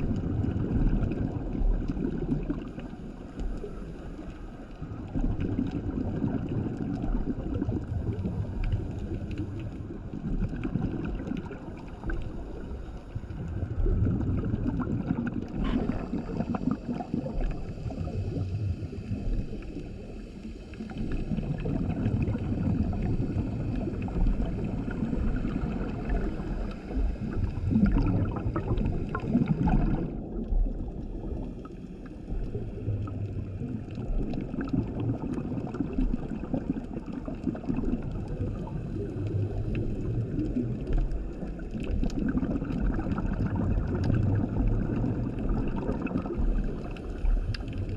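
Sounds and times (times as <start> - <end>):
underwater exhaled bubbles rumbling: 0.0 - 47.9.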